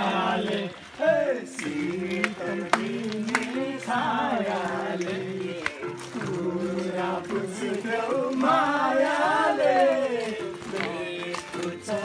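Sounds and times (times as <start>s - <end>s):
people singing together: 0.0s - 12.0s.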